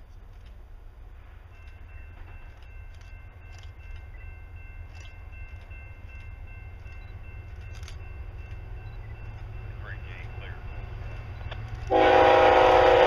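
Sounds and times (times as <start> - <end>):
distant diesel train rumble: 0.0 - 13.0.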